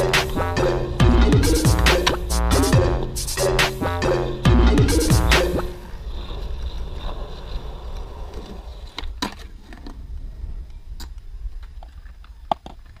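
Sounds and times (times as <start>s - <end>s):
skateboard wheels rolling on concrete: 0.0s - 2.7s, 4.9s - 13.0s.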